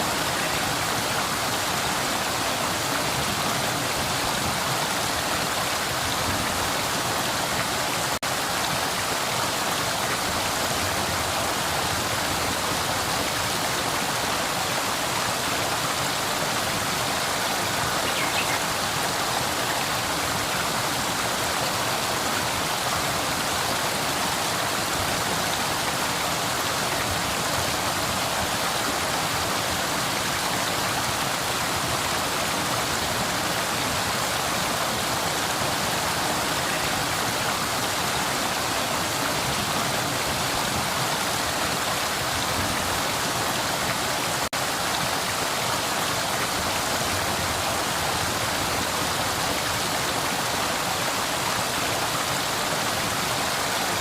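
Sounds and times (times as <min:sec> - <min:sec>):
river water rushing over stones: 0:00.0 - 0:54.0.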